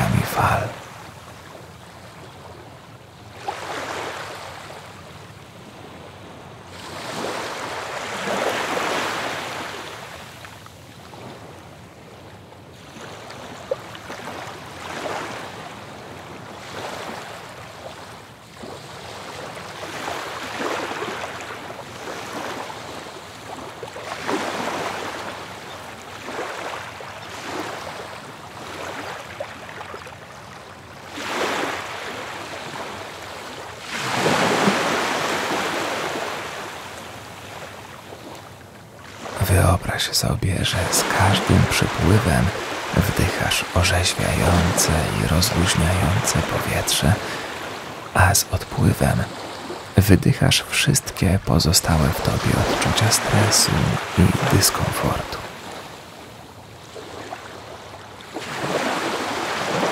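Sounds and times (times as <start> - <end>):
waves breaking on shore: 0.0 - 39.4, 40.9 - 48.4, 49.2 - 50.0, 51.8 - 59.9.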